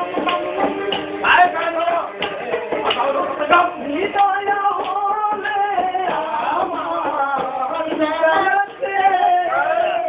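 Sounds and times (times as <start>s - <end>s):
instrumental accompaniment: 0.0s - 10.0s
man singing: 0.0s - 10.0s.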